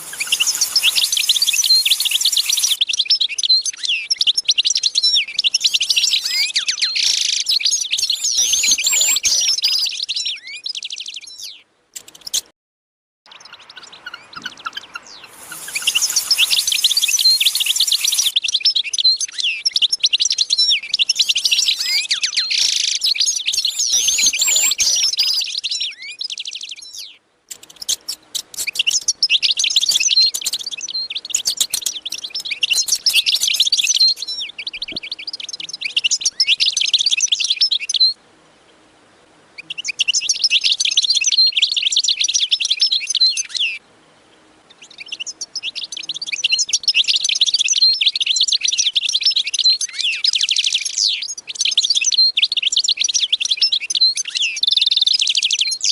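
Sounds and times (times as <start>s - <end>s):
small birds chirping and twittering: 0.0s - 12.5s, 13.3s - 55.9s.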